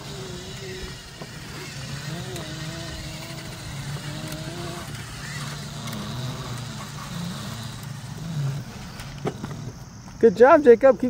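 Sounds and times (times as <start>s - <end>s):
small motorbike motor running: 0.0s - 10.2s.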